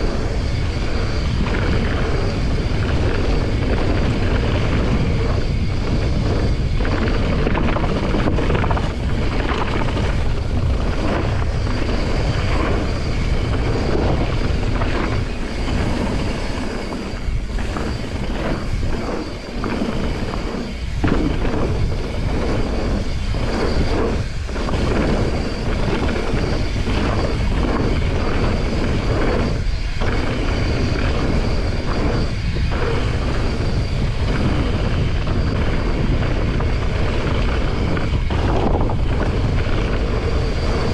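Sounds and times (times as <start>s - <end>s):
bike tyres rumbling on gravel: 0.0s - 40.9s
wind buffeting microphone: 0.0s - 40.9s.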